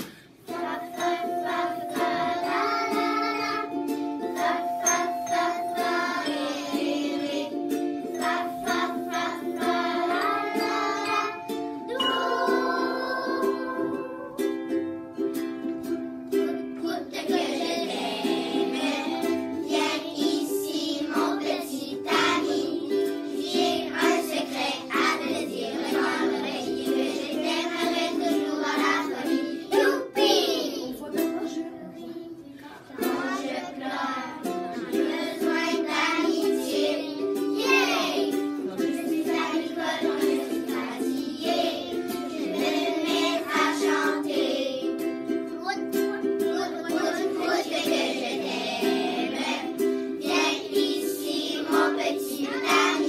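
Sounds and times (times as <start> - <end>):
children singing together: 0.0 - 31.4, 32.0 - 53.0
strummed ukulele: 0.0 - 53.0.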